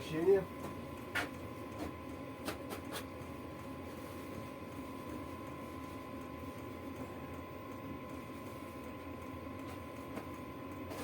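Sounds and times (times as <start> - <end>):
steady background hum: 0.0 - 11.0
thin constant whine: 0.0 - 11.0.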